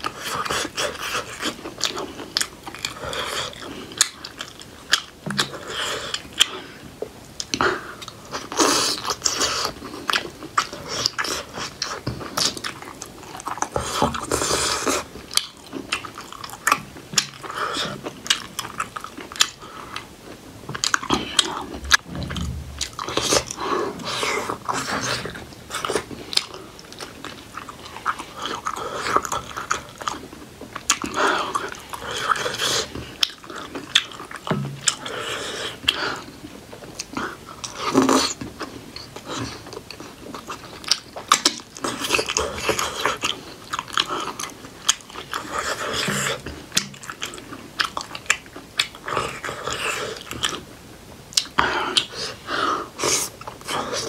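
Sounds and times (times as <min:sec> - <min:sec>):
close chewing with wet mouth sounds: 0:00.0 - 0:54.0.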